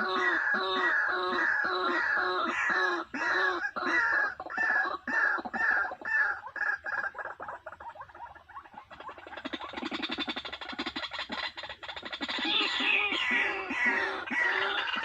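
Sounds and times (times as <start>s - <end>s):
bird calling harshly: 0.0s - 7.4s, 8.4s - 15.0s.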